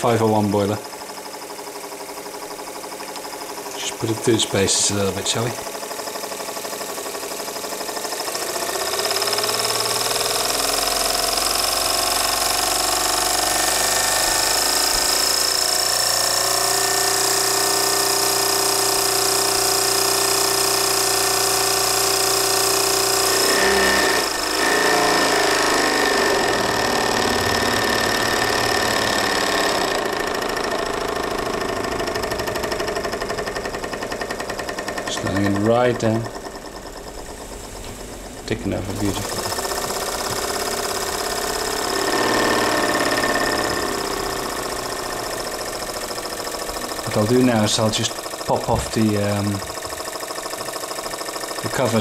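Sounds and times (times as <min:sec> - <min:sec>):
steam engine rapid beat: 0:00.0 - 0:52.0.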